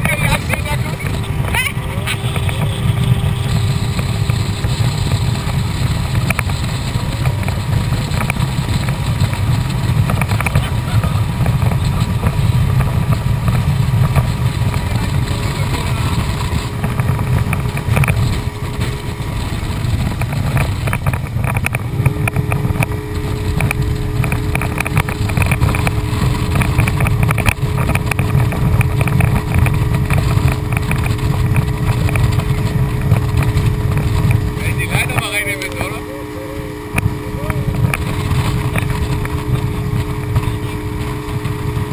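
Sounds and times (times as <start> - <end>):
motorboat engine running: 0.0 - 41.9
rumble of hull and water: 0.0 - 41.9
steady engine hum: 0.0 - 41.9.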